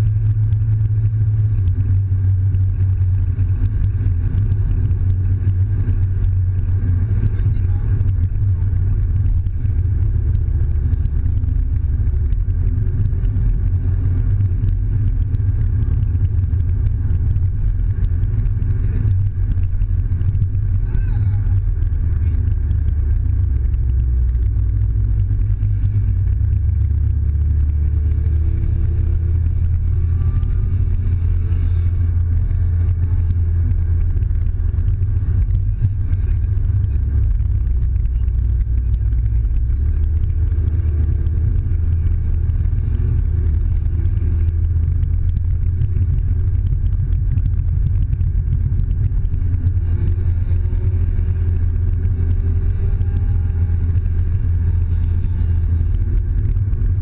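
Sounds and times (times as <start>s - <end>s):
car engine drone: 0.0s - 57.0s
tyre noise: 0.0s - 57.0s.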